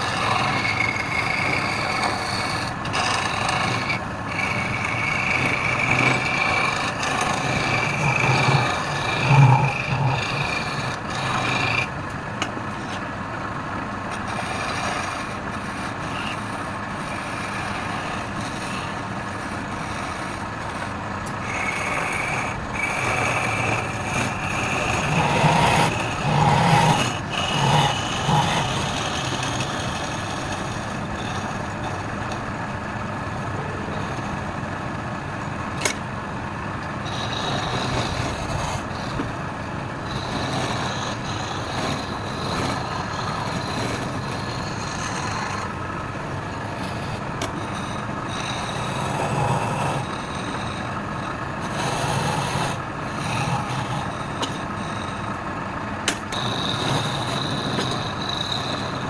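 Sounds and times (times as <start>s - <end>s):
tool cutting spinning wood: 0.0s - 59.0s
wood lathe whining: 0.0s - 59.0s.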